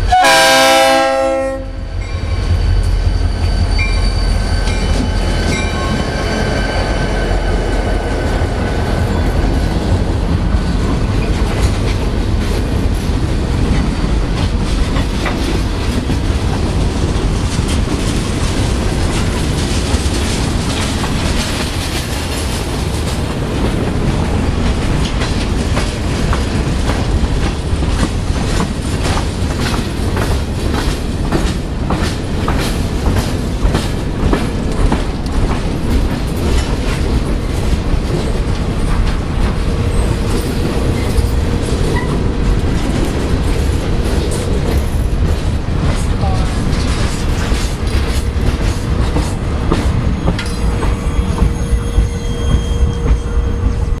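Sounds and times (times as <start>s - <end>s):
train wheels clicking over rail joints: 7.7s - 54.0s.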